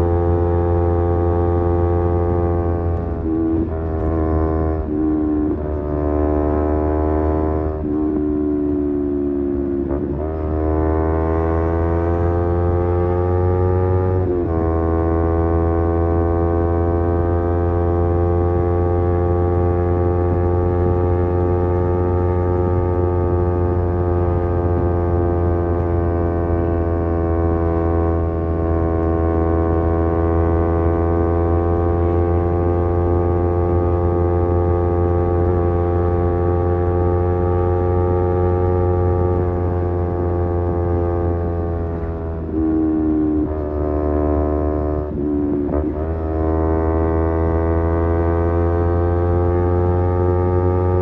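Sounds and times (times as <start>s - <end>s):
motorcycle engine cruising: 0.0s - 51.0s.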